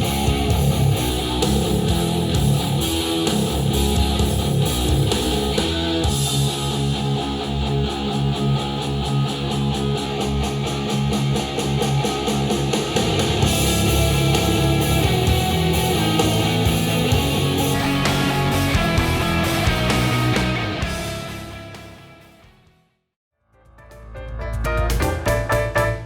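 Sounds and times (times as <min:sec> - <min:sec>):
rock music through speakers: 0:00.0 - 0:22.7.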